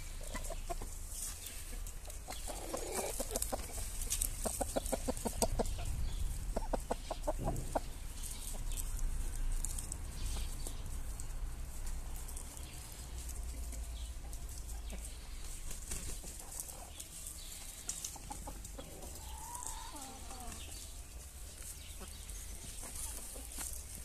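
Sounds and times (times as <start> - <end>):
chickens clucking quietly: 0.0 - 24.0.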